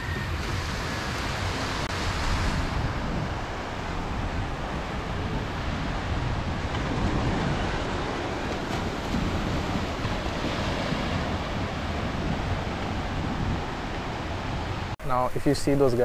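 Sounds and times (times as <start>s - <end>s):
wind buffeting microphone: 0.0s - 15.0s
surf washing onto sand: 0.3s - 14.9s.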